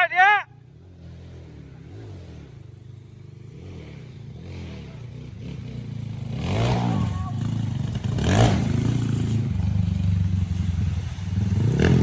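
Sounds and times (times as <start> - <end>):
motorcycle engine revving: 0.5 - 12.0.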